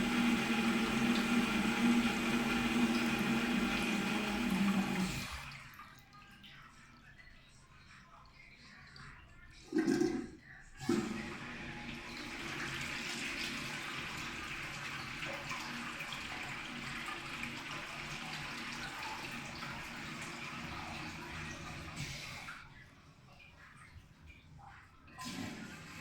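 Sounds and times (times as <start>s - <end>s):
urinal flushing water: 0.0s - 6.5s, 8.0s - 26.0s.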